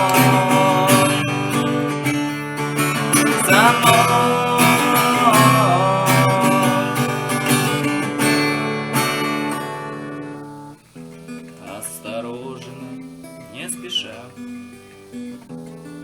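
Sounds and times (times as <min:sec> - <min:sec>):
person singing: 0:00.0 - 0:09.8, 0:11.5 - 0:14.7
acoustic guitar strumming: 0:00.0 - 0:16.0.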